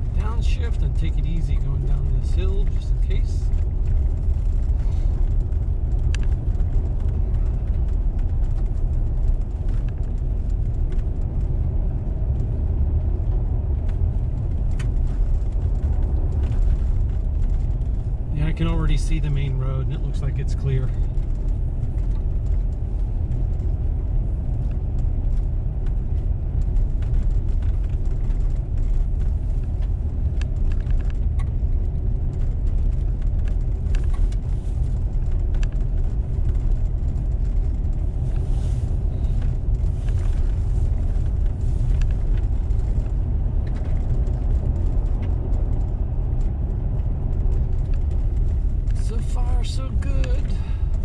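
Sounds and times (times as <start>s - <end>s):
engine and tyres rumbling: 0.0s - 51.0s.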